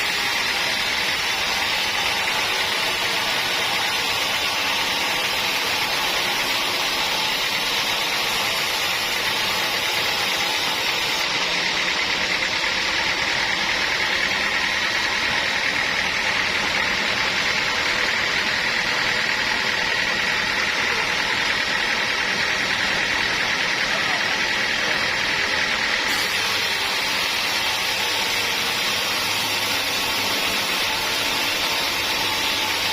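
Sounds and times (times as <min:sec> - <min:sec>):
high machine whine: 0:00.0 - 0:32.9
sawmill machinery drone: 0:00.0 - 0:32.9.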